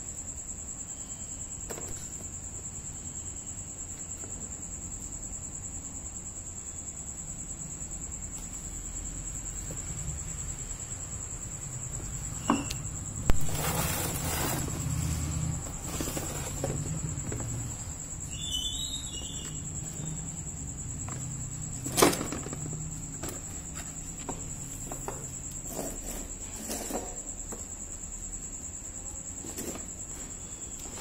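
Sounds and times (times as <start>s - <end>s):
high-pitched insect trill: 0.0s - 31.0s.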